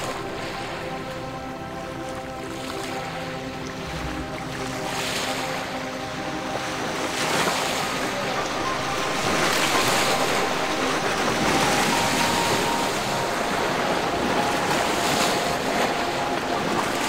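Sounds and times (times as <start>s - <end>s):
river water lapping: 0.0s - 17.0s.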